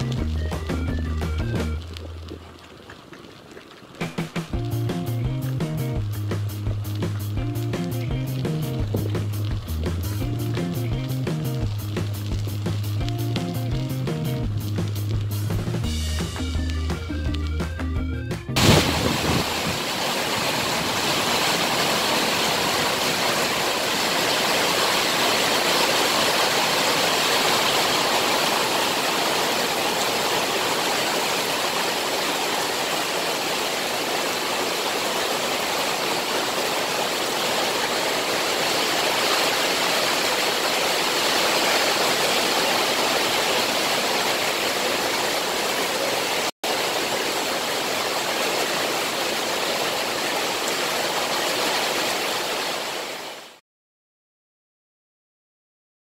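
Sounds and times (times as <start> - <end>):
heavy rain on wet road: 0.0 - 17.5, 18.6 - 53.6.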